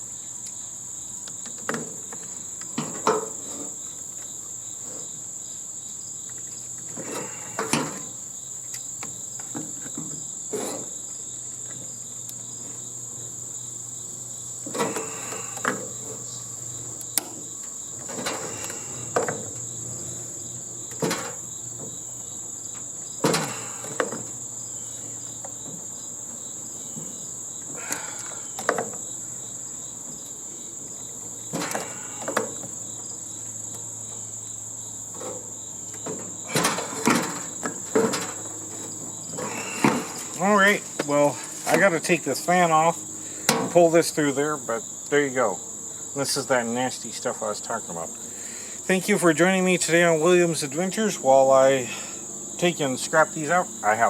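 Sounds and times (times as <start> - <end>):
high-pitched insect trill: 0.0 - 54.0.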